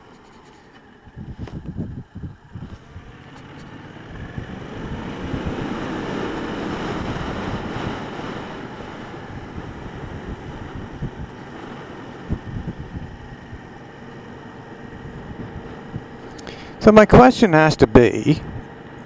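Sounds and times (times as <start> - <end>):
motorcycle engine running: 0.0 - 17.0, 18.1 - 19.0
wind rushing over microphone: 1.0 - 18.8.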